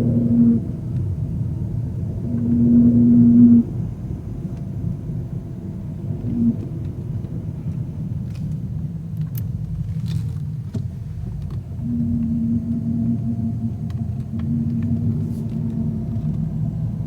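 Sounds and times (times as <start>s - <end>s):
steady hum: 0.0s - 8.1s, 11.0s - 17.0s
car engine rumble: 0.0s - 17.0s.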